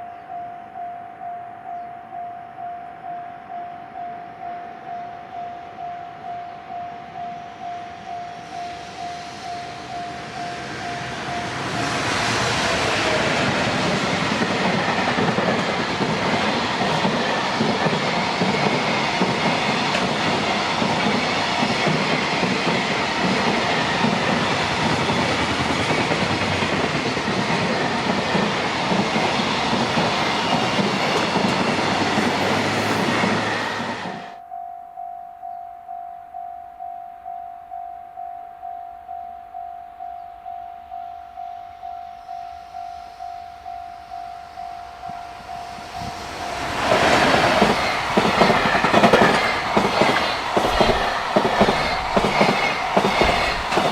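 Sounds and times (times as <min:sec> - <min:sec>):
freight train passing: 0:00.0 - 0:34.5, 0:39.5 - 0:53.9.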